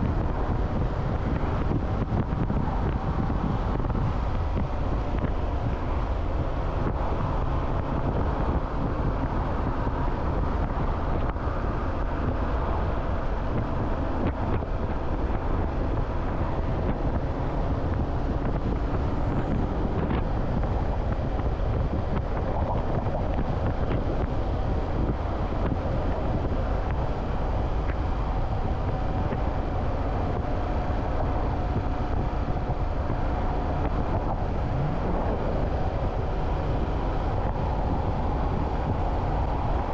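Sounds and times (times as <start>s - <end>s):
motorcycle running at speed: 0.0s - 39.9s
wind rushing over microphone: 0.0s - 39.9s.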